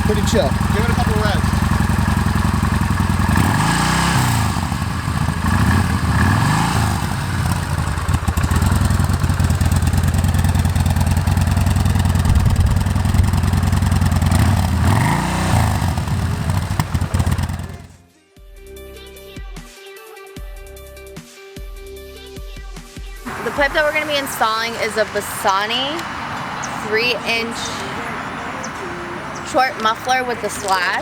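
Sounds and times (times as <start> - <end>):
motorcycle engine idling and revving: 0.0 - 18.0, 23.2 - 31.0.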